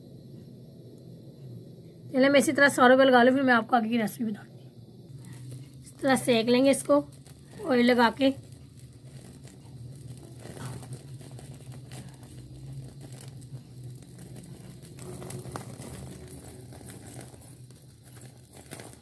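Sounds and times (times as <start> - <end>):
gas flame hum: 0.0 - 19.0
light crackles: 3.3 - 19.0.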